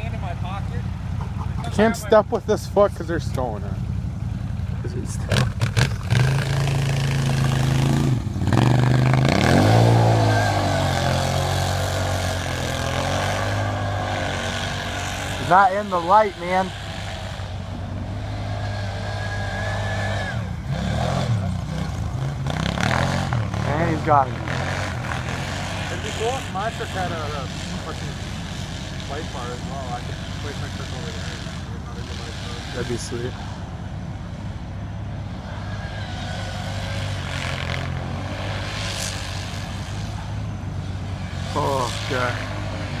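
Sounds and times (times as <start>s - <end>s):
vehicle engine revving: 0.0s - 43.0s.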